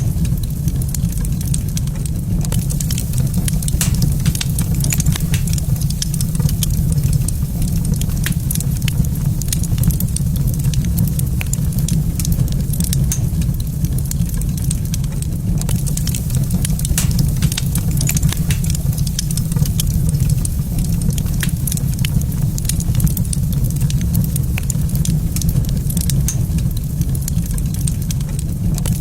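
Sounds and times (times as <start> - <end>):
steady low rumble: 0.0 - 29.0
wood fire crackling and popping: 0.0 - 29.0.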